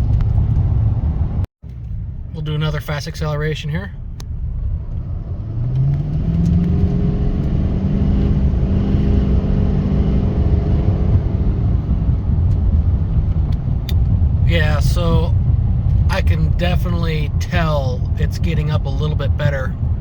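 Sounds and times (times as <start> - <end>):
diesel truck engine accelerating: 0.0 - 20.0.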